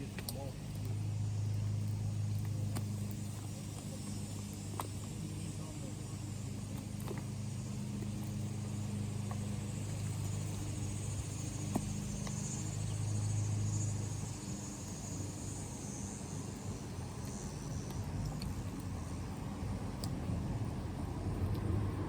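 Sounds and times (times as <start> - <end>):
faint high insect buzz: 0.0 - 22.0
low mechanical hum: 0.0 - 22.0.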